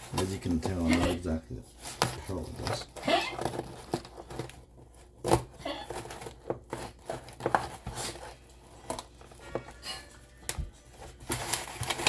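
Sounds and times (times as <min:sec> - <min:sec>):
packaging tearing and crinkling: 0:00.0 - 0:12.0.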